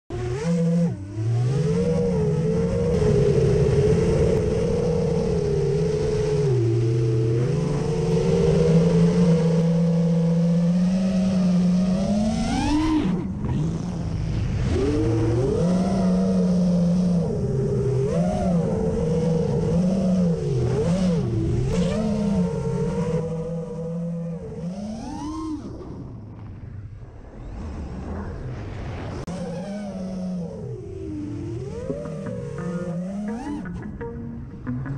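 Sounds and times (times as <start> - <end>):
quadcopter motors whining: 0.1 - 26.1, 29.3 - 33.8.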